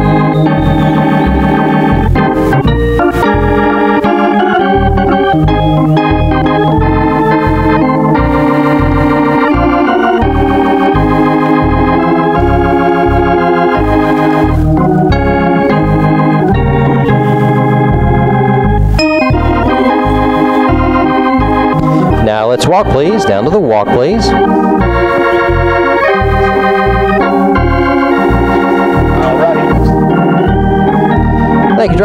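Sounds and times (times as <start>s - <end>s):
organ playing held chords: 0.0s - 32.0s
pulsing bass line: 0.0s - 32.0s.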